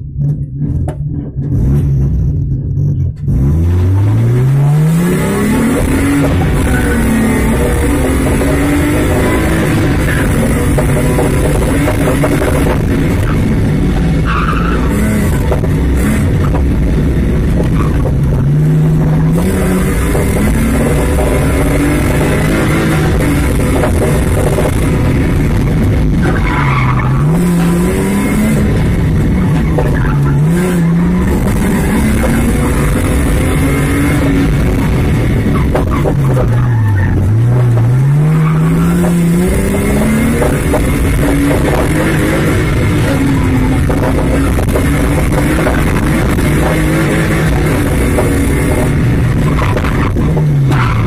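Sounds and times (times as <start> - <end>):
rally car engine revving: 0.0 - 51.0.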